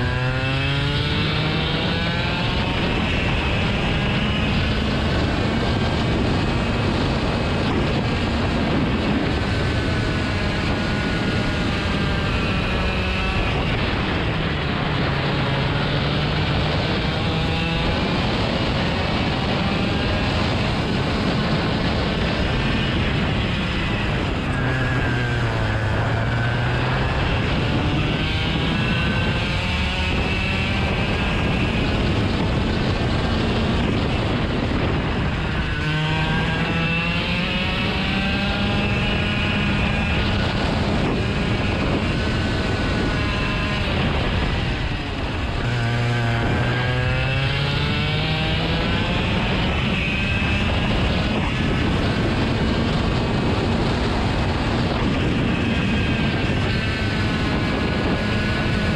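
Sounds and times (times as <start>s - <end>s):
constant rushing noise: 0.0s - 58.9s
engine revving: 0.0s - 58.9s.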